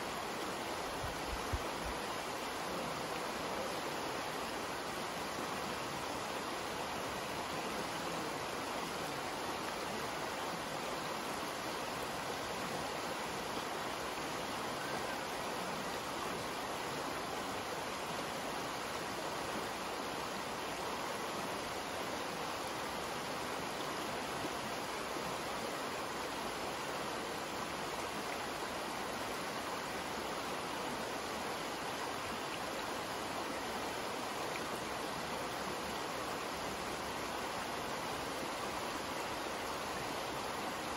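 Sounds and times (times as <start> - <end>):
creek water rushing over rocks: 0.0 - 40.9.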